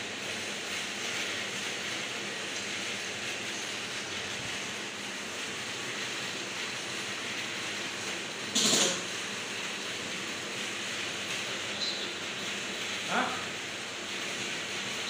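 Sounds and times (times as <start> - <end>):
printer mechanical hum and hiss: 0.0 - 15.0.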